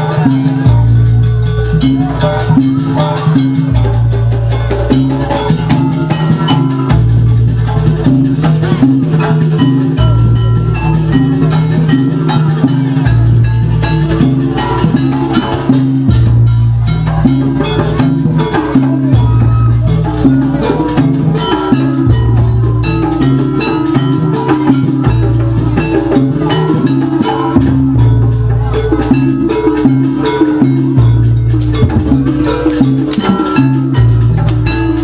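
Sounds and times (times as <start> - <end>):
drums: 0.0 - 35.0
low bass notes: 0.0 - 35.0
struck gamelan percussion: 0.0 - 35.0.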